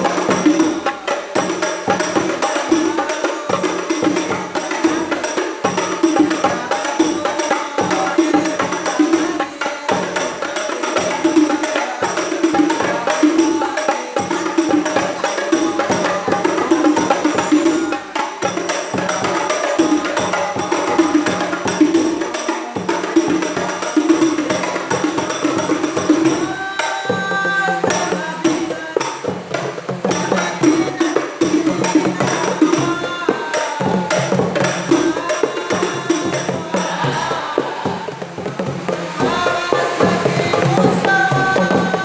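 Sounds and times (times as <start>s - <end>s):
frame drums with jingles: 0.0s - 42.0s.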